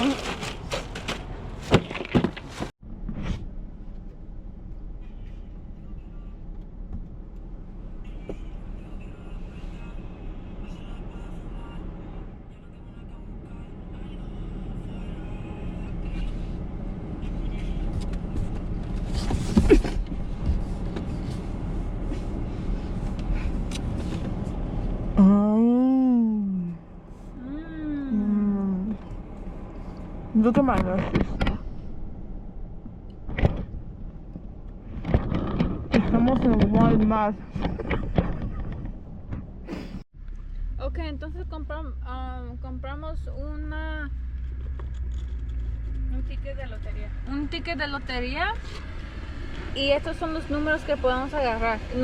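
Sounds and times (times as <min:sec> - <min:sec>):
car driving road noise: 0:00.0 - 0:52.0.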